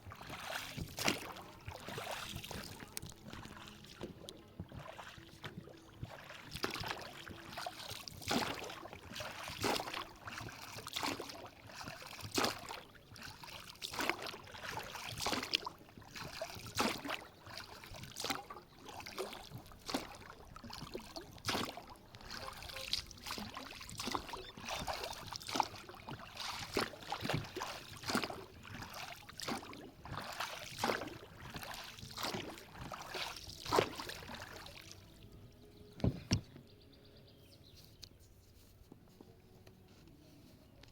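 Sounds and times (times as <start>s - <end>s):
water splashing: 0.0s - 35.3s.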